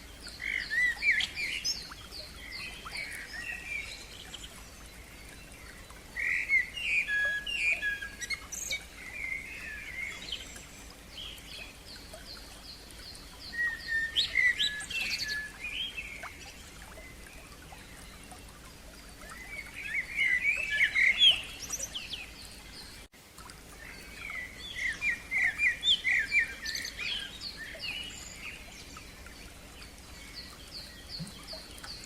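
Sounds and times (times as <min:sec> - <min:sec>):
songbirds singing: 0:00.0 - 0:32.0.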